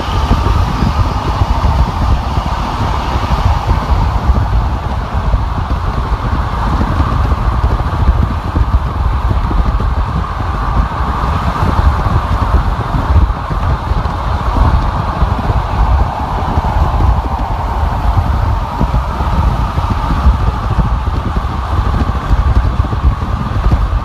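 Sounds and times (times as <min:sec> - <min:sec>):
rushing wind: 0:00.0 - 0:24.0.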